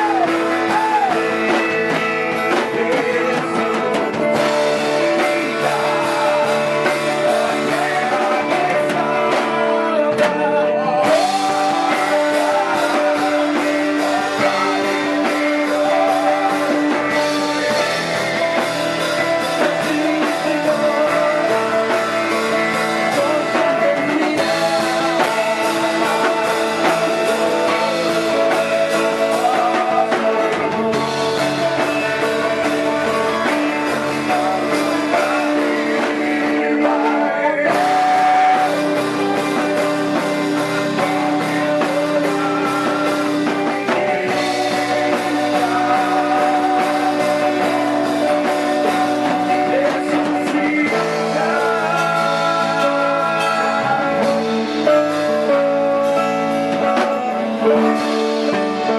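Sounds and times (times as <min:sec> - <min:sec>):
band playing worship song: 0:00.0 - 0:58.9
guitar: 0:00.0 - 0:58.9
person singing: 0:00.0 - 0:58.9.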